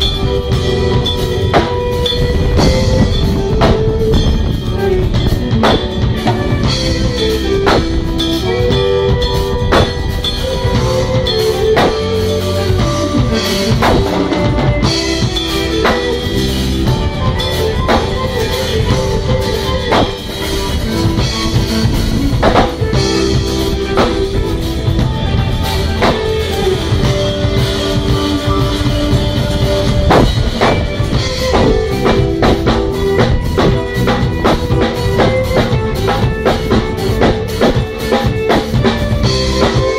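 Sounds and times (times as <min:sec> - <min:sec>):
drum kit playing a groove: 0:00.0 - 0:39.9
keyboards playing chords and bass: 0:00.0 - 0:39.9.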